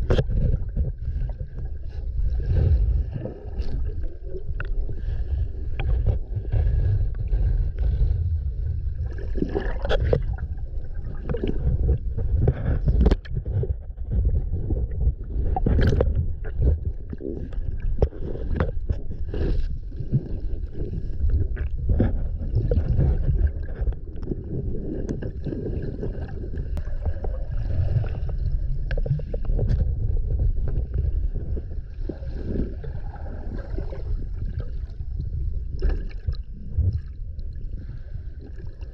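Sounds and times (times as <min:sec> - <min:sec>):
underwater rumble of moving water: 0:00.0 - 0:38.9
water gurgling: 0:00.0 - 0:38.9.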